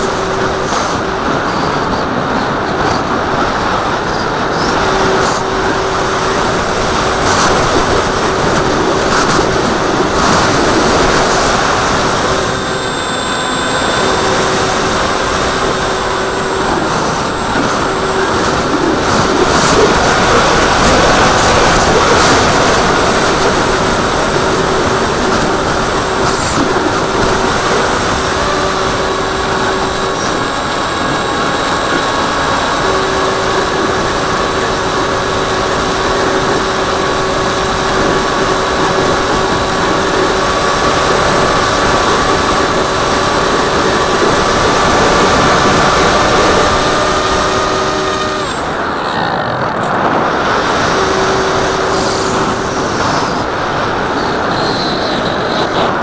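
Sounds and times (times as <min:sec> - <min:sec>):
electric motor and propeller whine: 0:00.0 - 0:56.0
wind rushing over microphone: 0:00.0 - 0:56.0.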